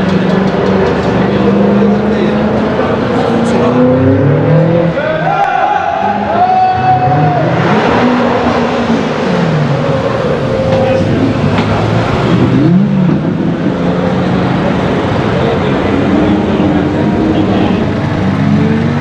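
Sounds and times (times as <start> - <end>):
car engines revving in a tunnel: 0.0 - 19.0.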